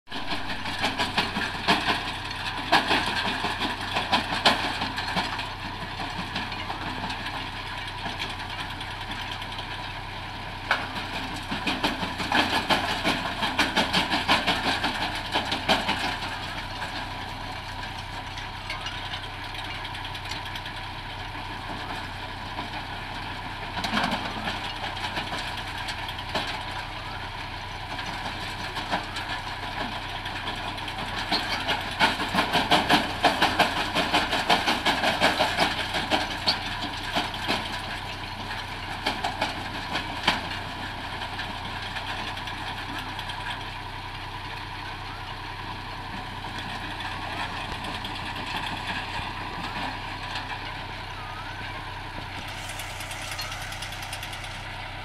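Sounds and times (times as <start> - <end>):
engine drone: 0.1 - 55.0.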